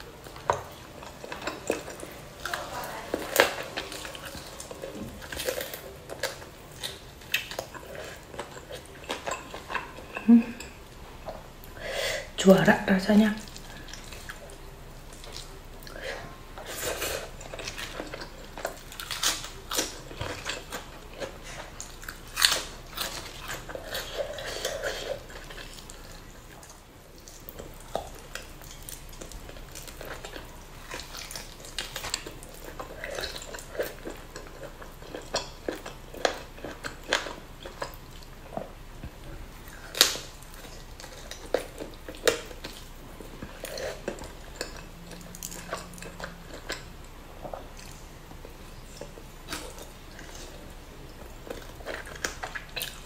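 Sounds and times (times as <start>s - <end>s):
person chewing food: 0.0s - 12.4s, 13.4s - 53.0s.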